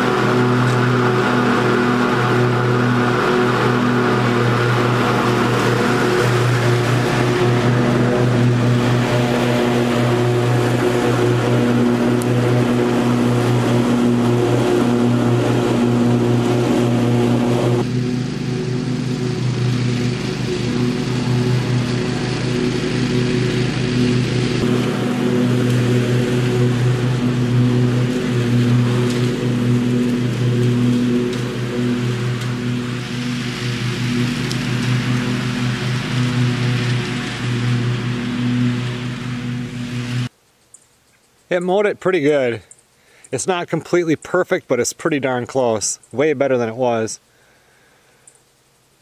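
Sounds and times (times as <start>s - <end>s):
riding lawn mower engine running: 0.0s - 48.5s.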